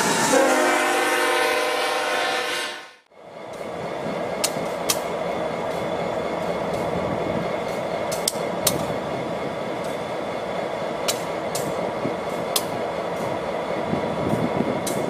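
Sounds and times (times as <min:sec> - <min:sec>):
diesel locomotive engines rumbling: 0:00.0 - 0:15.0.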